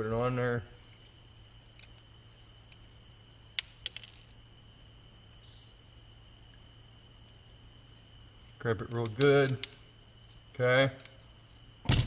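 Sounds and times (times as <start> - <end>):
faint high whine: 0.0 - 12.0
steady low hum: 0.0 - 12.0.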